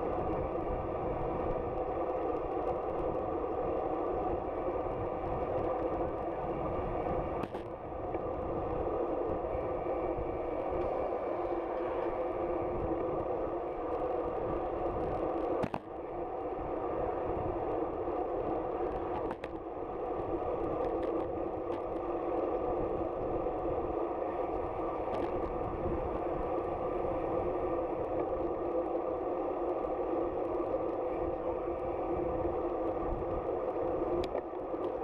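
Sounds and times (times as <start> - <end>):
wind rush: 4.2 - 35.0.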